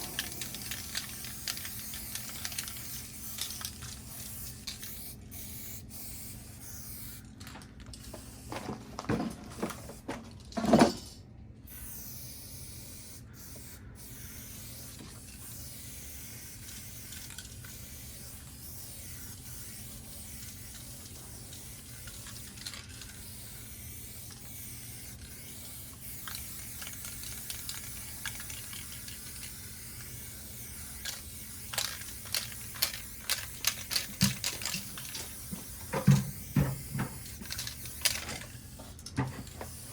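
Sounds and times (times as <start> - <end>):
aerosol spray can hissing: 0.0 - 7.2, 11.7 - 39.9.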